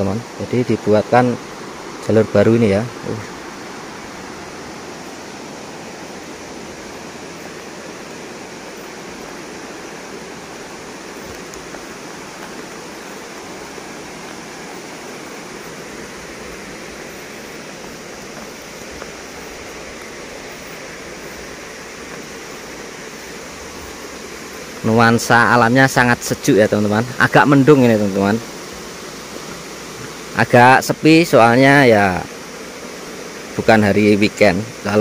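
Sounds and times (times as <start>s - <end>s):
waterfall rushing: 0.0s - 28.3s.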